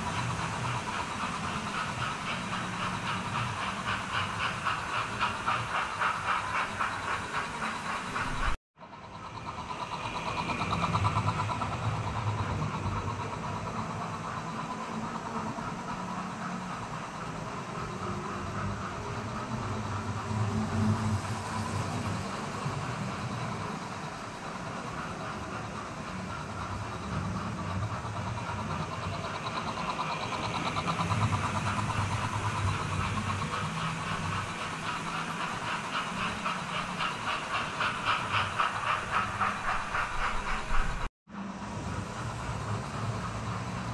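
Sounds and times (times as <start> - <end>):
model train wheels rumbling: 0.0 - 43.9.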